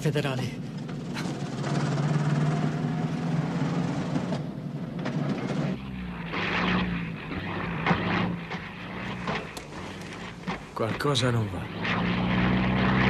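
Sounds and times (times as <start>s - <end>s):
engine noise: 0.0s - 13.0s
propeller plane flying over: 0.0s - 13.0s.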